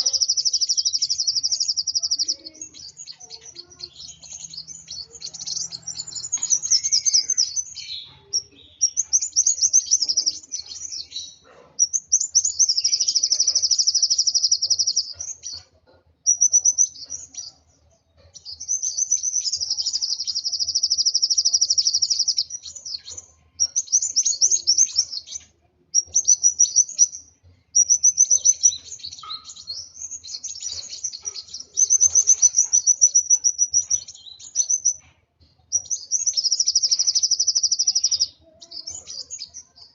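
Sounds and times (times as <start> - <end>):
sunbird singing rapid trills: 0.0 - 15.7, 18.4 - 35.0, 35.7 - 39.9.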